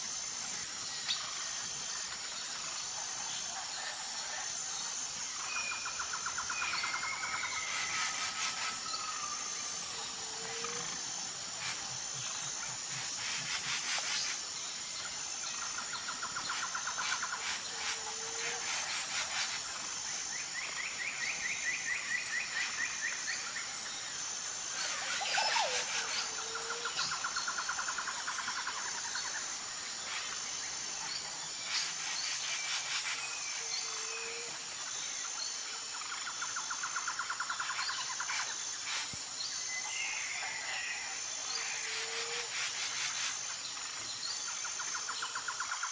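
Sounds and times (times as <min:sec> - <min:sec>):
high insect chorus: 0:00.0 - 0:45.9.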